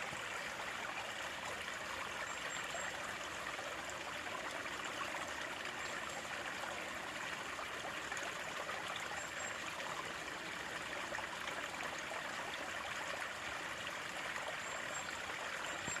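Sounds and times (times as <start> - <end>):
running water trickling: 0.0 - 16.0.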